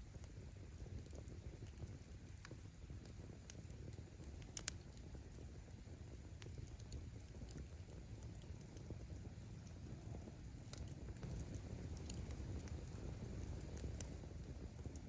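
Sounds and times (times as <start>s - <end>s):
firewood crackling: 0.0s - 15.0s
flames fluttering: 0.0s - 15.0s.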